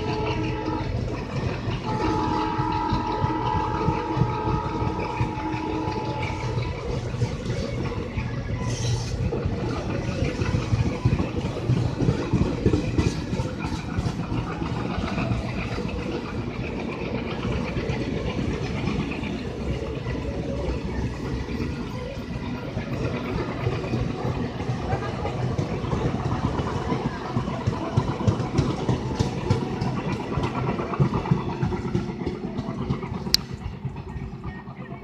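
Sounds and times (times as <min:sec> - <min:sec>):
diesel locomotive engine chugging: 0:00.0 - 0:35.0
low rumble of moving train: 0:00.0 - 0:35.0.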